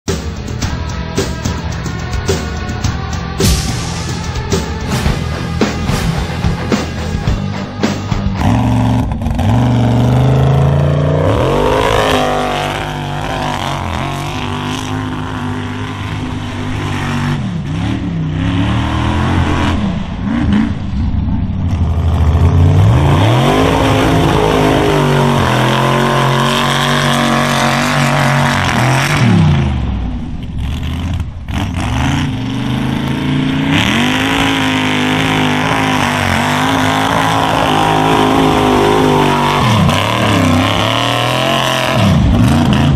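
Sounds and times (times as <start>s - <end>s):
truck engine revving: 0.1s - 42.9s.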